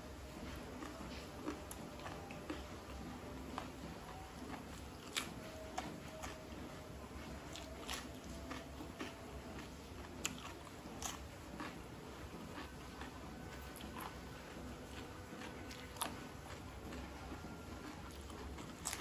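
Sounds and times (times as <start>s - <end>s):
chewing crisp cucumber: 0.1s - 19.0s.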